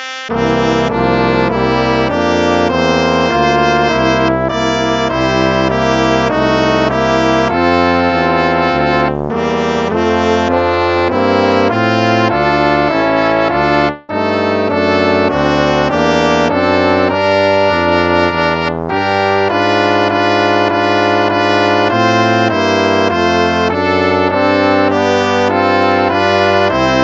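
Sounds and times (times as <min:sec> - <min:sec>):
brass-like hymn chords: 0:00.0 - 0:27.0.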